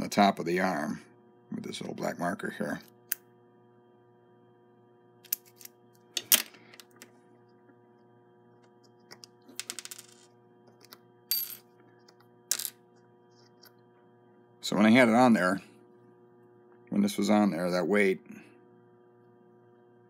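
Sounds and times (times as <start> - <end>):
faint electrical hum: 0.0 - 20.0.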